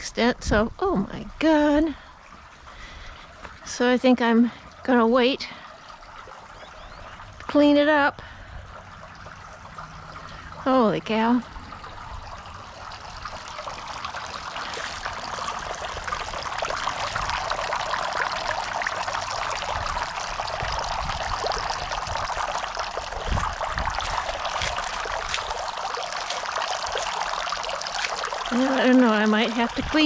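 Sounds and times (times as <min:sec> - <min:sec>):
fountain splashing and trickling: 0:01.6 - 0:30.0.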